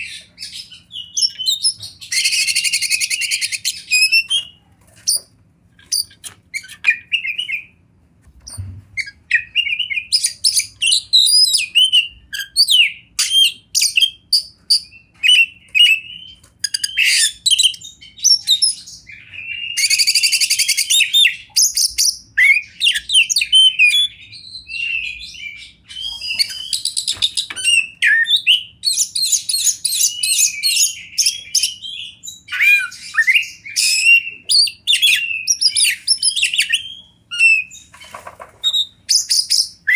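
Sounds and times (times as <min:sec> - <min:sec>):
magpie-robin singing: 0:00.0 - 0:07.8, 0:08.5 - 0:39.9.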